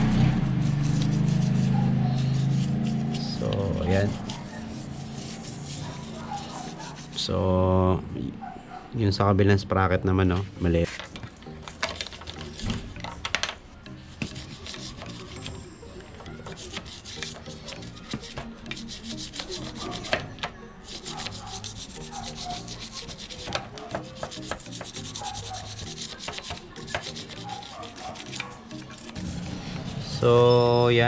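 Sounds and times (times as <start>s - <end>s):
toothbrush scrubbing chain: 0.0s - 7.3s, 11.0s - 12.7s, 14.1s - 30.6s.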